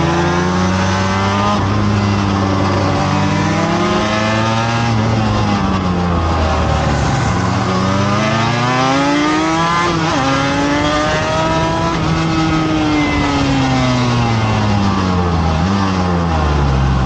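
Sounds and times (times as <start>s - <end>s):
motorcycle engine revving: 0.0s - 17.0s
wind rush: 0.0s - 17.0s.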